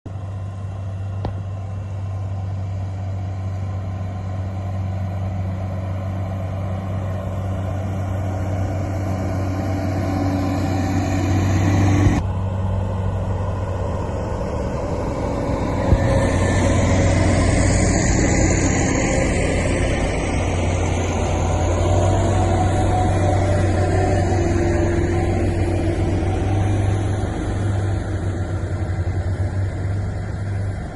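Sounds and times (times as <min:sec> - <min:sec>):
grader diesel engine droning: 0:00.1 - 0:30.9.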